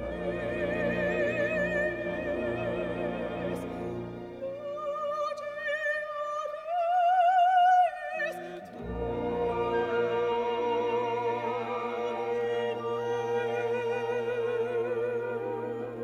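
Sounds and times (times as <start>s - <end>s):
mezzo-soprano singing with vibrato: 0.0s - 16.0s.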